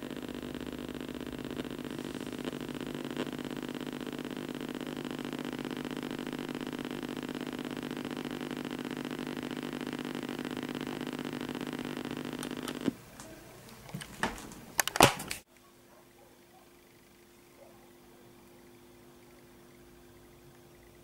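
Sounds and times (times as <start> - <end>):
droning hum: 0.0 - 13.6, 16.4 - 21.0.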